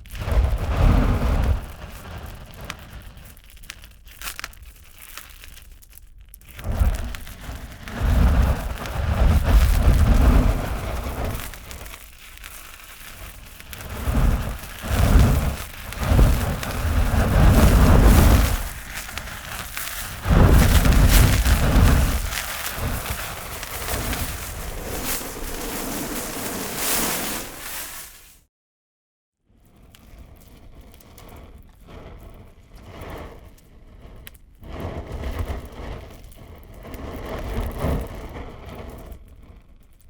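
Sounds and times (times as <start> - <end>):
deep rumbling flame surges: 0.0 - 4.8, 6.4 - 28.3, 29.6 - 40.0
fire crackling: 0.0 - 28.4, 29.7 - 40.0.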